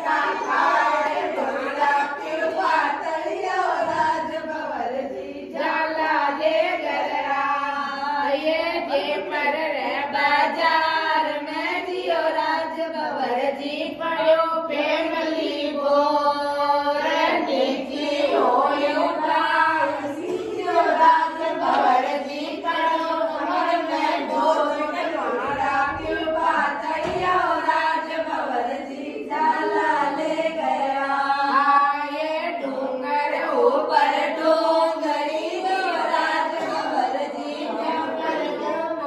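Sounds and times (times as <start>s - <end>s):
women singing together: 0.0s - 39.0s.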